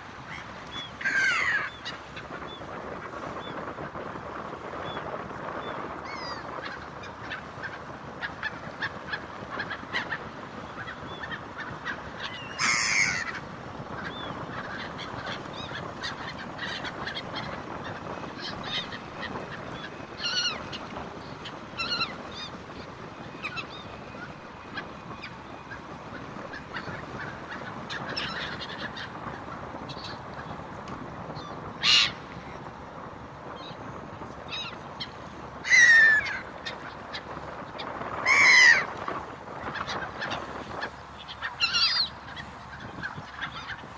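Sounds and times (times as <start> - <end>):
gulls calling: 0.0 - 43.9.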